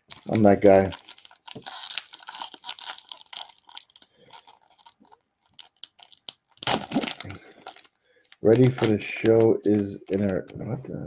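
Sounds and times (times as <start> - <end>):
cards rustling: 0.0 - 10.8.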